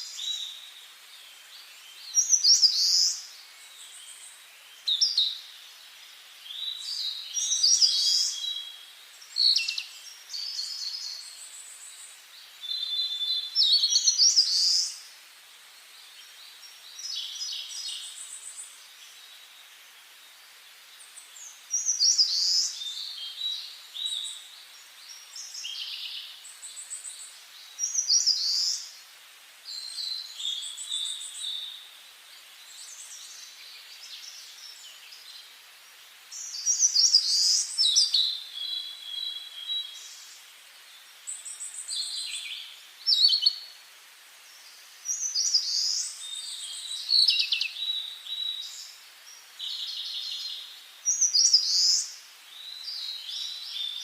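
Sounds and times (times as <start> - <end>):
faint steady hiss: 0.0 - 54.0
songbirds singing: 0.0 - 54.0.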